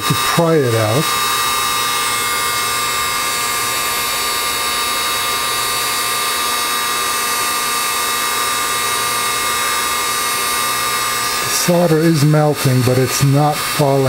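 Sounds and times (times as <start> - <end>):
heat gun air hiss and fan whine: 0.0 - 14.0.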